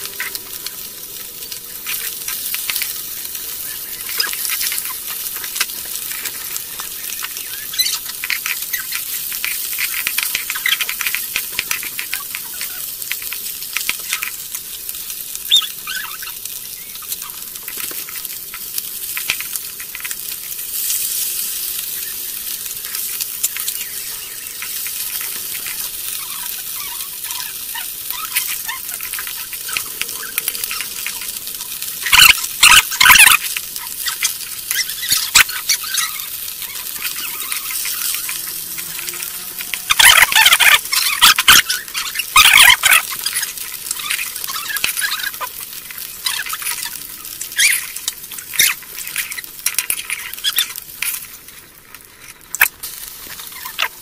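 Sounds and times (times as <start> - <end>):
fish sizzling in oil: 0.0 - 54.0.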